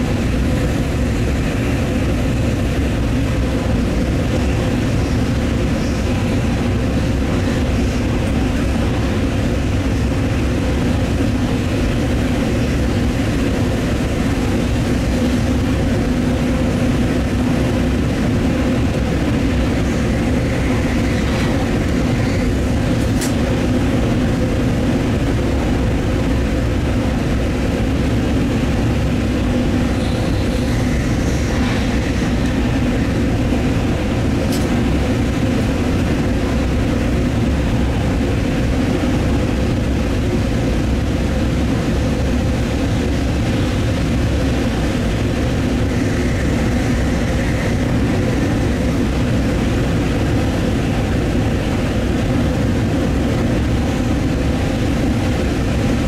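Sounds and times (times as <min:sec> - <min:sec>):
diesel train drone: 0:00.0 - 0:56.0.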